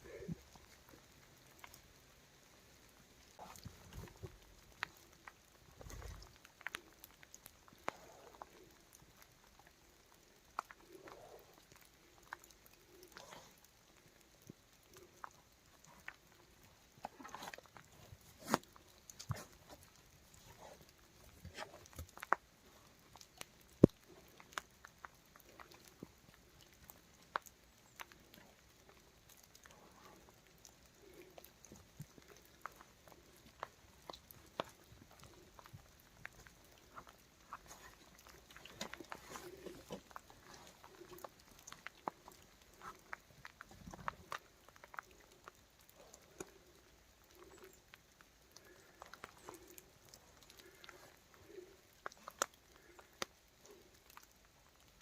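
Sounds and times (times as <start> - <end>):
wild boar snuffling: 0.0 - 55.0.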